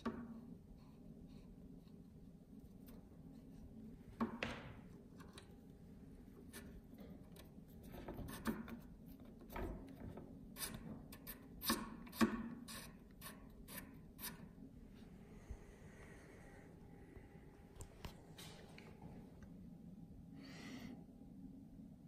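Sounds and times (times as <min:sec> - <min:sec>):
faint low hum: 0:00.0 - 0:11.5, 0:13.1 - 0:22.0.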